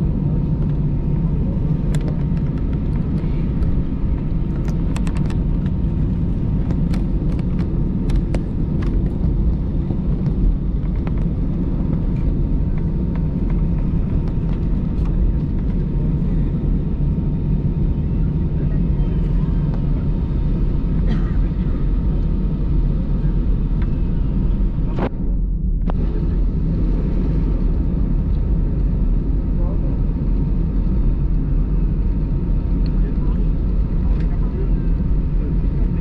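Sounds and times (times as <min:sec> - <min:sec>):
jet cabin rumble: 0:00.0 - 0:36.0.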